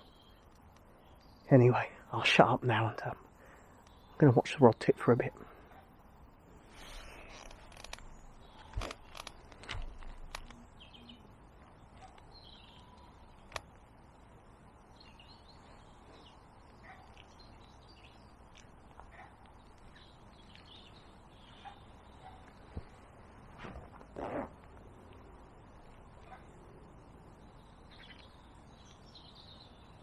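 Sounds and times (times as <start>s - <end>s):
background hiss: 0.0s - 30.0s
faint birds chirping: 0.0s - 30.0s.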